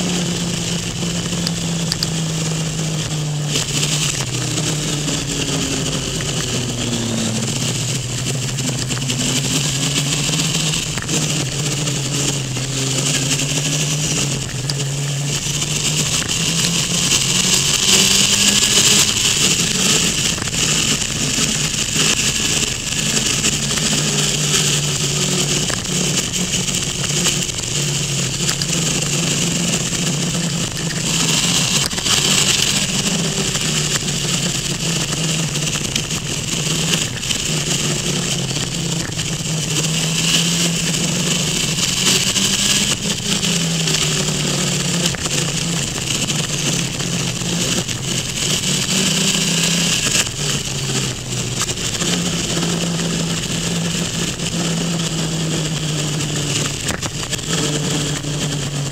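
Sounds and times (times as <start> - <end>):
motorcycle engine revving: 0.0 - 58.9
wind noise: 0.0 - 58.9.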